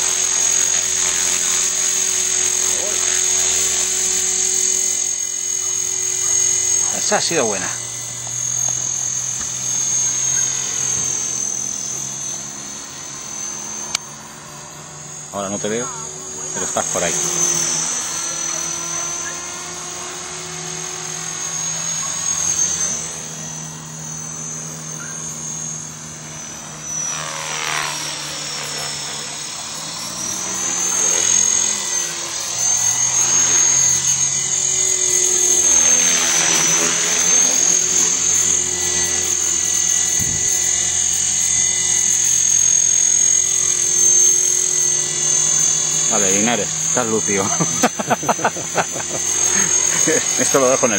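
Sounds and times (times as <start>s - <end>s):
model helicopter rotor whine: 0.0s - 50.9s.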